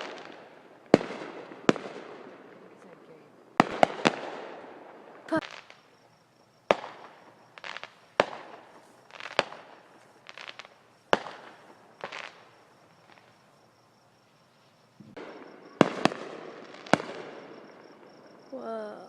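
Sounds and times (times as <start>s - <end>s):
fireworks bangs and crackles: 0.0s - 13.5s, 14.9s - 19.0s.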